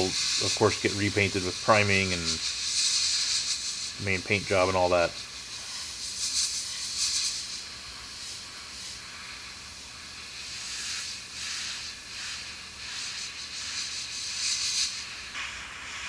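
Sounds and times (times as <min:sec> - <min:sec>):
airbrush spraying hiss: 0:00.0 - 0:16.0.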